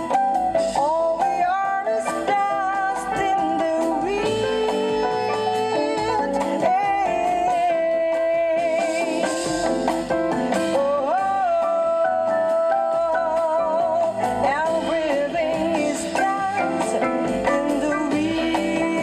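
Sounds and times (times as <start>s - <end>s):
plucked guitar: 0.0s - 19.0s
sliding lead melody: 0.0s - 19.0s.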